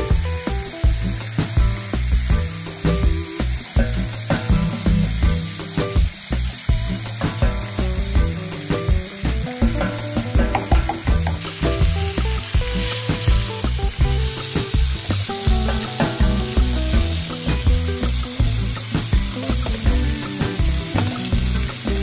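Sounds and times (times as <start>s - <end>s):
background music with beat: 0.0s - 22.0s
meat sizzling in a frying pan: 0.0s - 22.0s.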